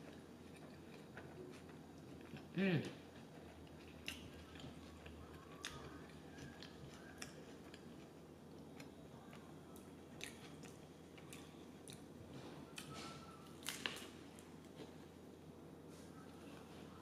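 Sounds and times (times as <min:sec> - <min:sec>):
faint chewing: 0:00.0 - 0:15.2.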